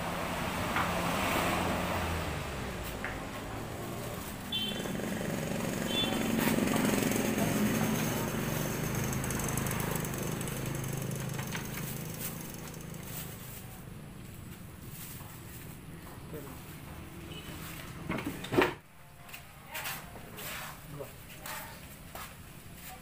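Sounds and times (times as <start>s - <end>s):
small engine passing: 0.0s - 18.4s.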